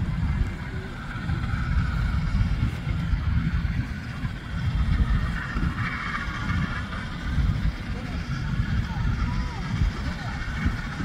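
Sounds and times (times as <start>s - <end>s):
distant steam locomotive rumble: 0.0s - 11.0s
highway traffic: 0.0s - 11.0s
wind buffeting microphone: 0.0s - 11.0s.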